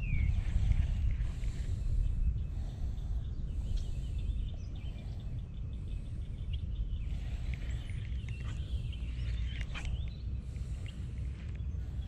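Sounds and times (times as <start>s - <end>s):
faint bird chirps: 0.0s - 12.0s
wind rumbling on microphone: 0.0s - 12.0s.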